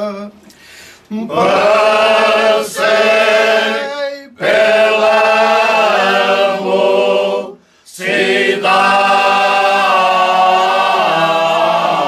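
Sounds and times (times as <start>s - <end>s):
choir singing unaccompanied: 1.3s - 12.0s.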